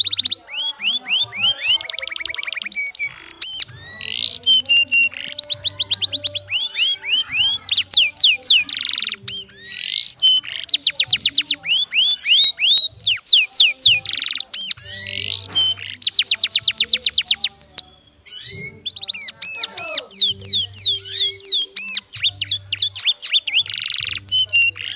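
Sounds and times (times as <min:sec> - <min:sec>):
canary singing: 0:00.0 - 0:24.9.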